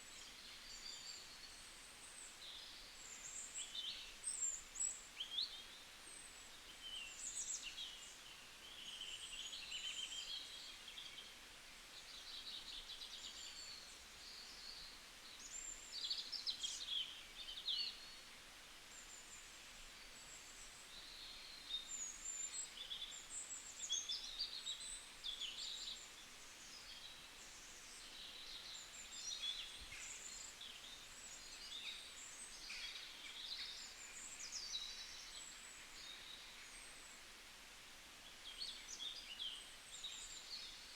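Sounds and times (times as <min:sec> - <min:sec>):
faint outdoor background noise: 0:00.0 - 0:40.9.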